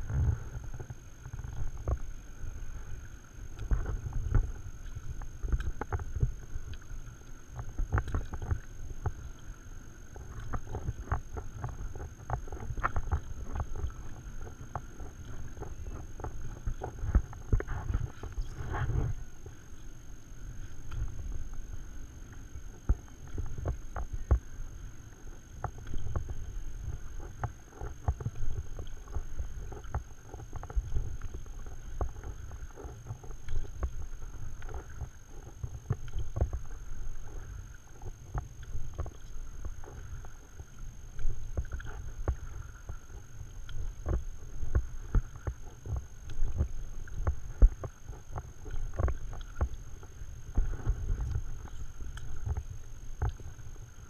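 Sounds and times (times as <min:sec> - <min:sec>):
faint high whine: 0:00.0 - 0:54.0
paddle splashing in water: 0:00.0 - 0:54.0.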